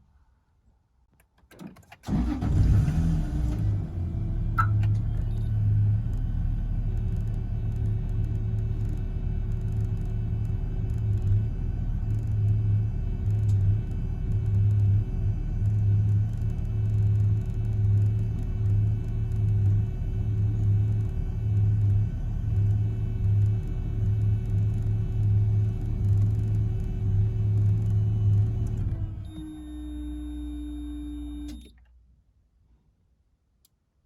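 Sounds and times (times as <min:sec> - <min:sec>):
car engine starting and idling: 0:01.5 - 0:31.9.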